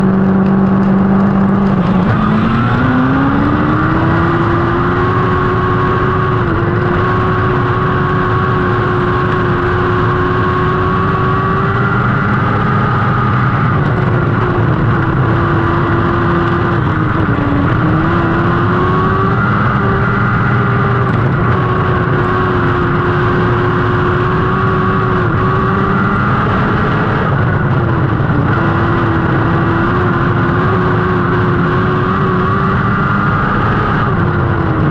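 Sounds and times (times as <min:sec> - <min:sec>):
race car engine accelerating: 0:00.0 - 0:34.9.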